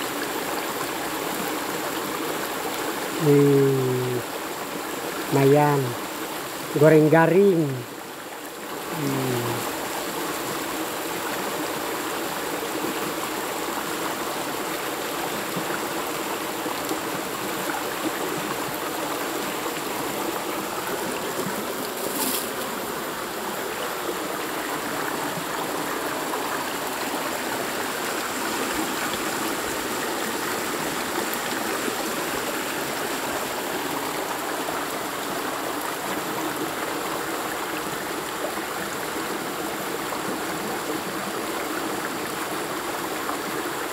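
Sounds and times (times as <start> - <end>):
stream splashing over stones: 0.0 - 43.9.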